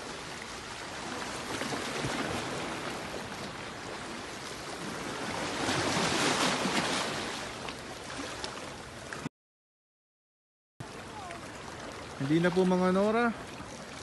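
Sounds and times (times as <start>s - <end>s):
waves splashing over rocks: 0.0s - 9.2s, 10.8s - 14.0s.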